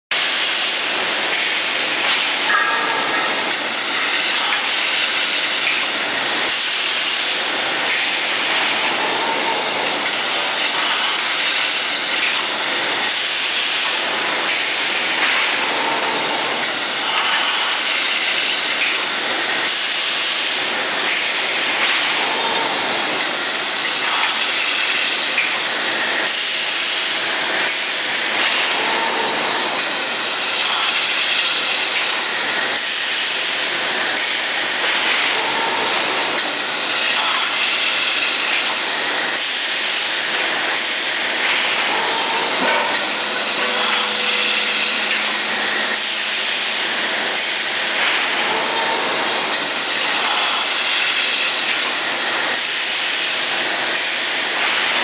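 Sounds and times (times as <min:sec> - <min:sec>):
loud hiss of machinery: 0:00.1 - 0:55.0.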